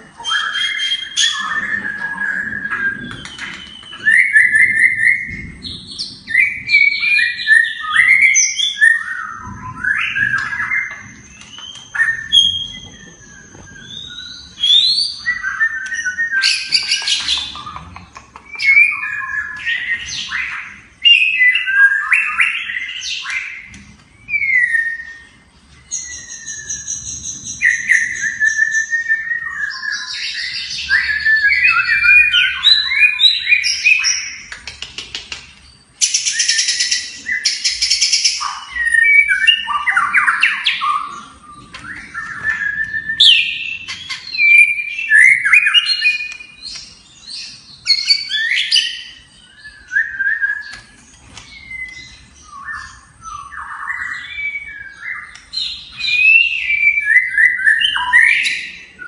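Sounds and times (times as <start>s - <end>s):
bird singing whistles: 0.2s - 17.8s, 18.4s - 34.5s, 35.7s - 59.0s.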